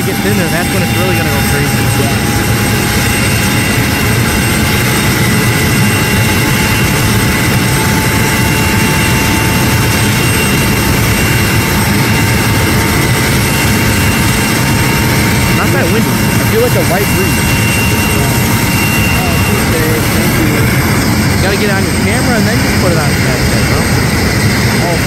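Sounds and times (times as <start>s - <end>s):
helicopter engine whine: 0.0s - 25.0s
helicopter rotors turning: 0.0s - 25.0s.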